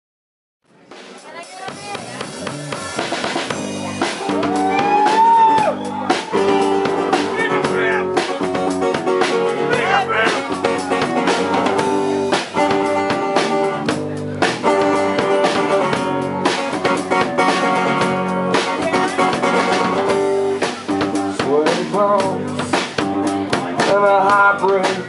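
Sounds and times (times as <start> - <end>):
drum kit: 0.7 - 25.0
acoustic-electric guitar: 1.8 - 25.0
electric bass: 1.8 - 25.0.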